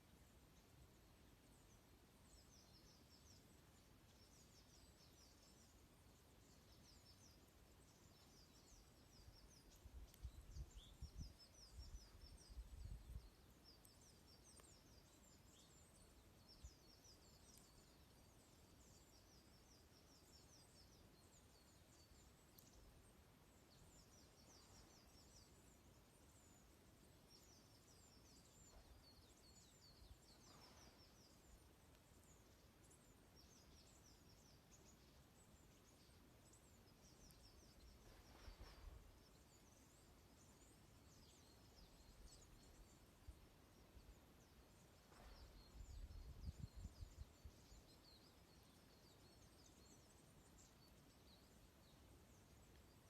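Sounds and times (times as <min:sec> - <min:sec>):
small birds twittering: 0:00.0 - 0:53.0.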